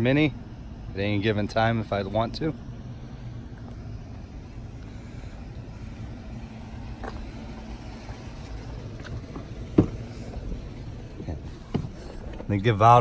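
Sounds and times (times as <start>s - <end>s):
pickup truck idling: 0.0s - 13.0s.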